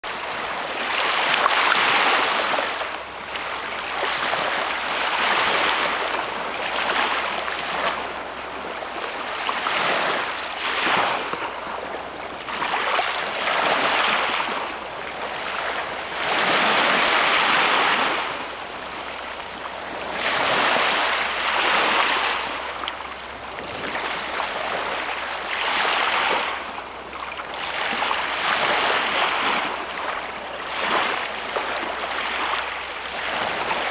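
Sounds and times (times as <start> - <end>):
small waves breaking on sand: 0.1 - 33.9.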